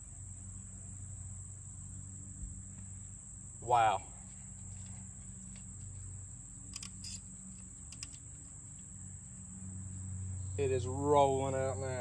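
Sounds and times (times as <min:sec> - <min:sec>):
insects trilling: 0:00.0 - 0:12.0
low steady hum: 0:00.0 - 0:12.0.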